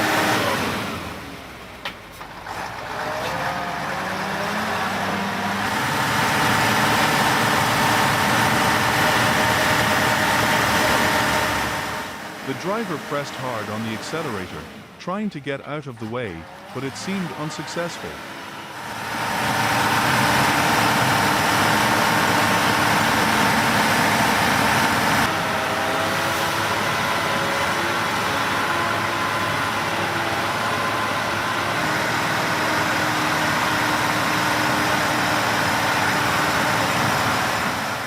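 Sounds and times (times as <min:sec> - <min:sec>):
truck engine revving hard: 0:00.0 - 0:01.7, 0:02.3 - 0:38.0.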